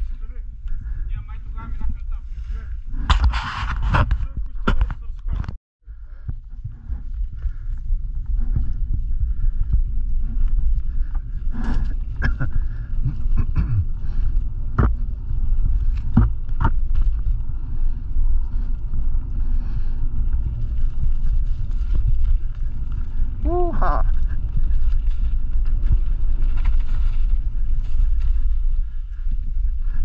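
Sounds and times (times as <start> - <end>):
bike tyre noise: 0.0 - 30.0
wind on microphone: 0.0 - 30.0.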